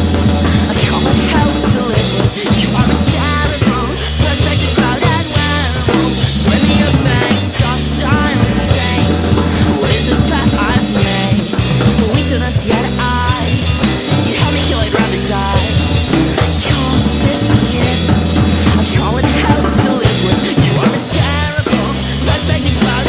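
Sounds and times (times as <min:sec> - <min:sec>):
drum kit playing: 0:00.0 - 0:23.0
heavy rock song: 0:00.0 - 0:23.0.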